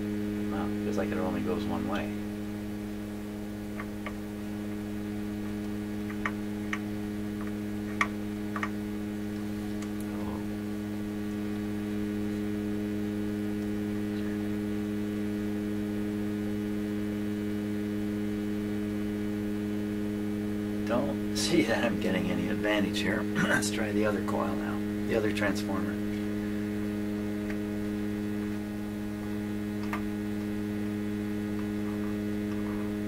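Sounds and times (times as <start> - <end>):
steady mains hum: 0.0 - 33.0.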